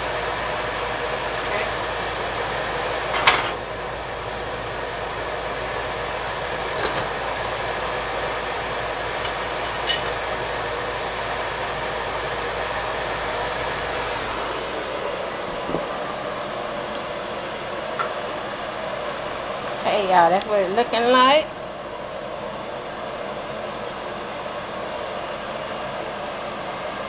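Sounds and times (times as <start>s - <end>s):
whirring fan: 0.0s - 27.0s.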